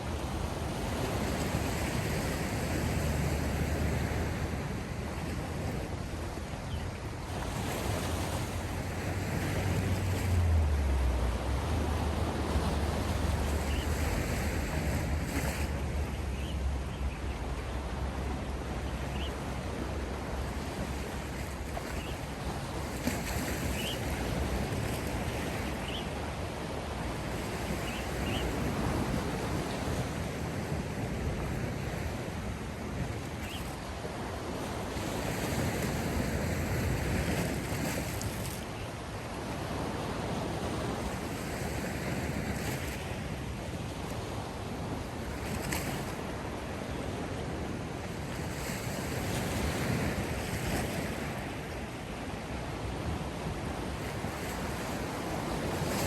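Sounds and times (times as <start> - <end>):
waves breaking on shore: 0.0 - 56.0
wind rumble on microphone: 0.0 - 56.0.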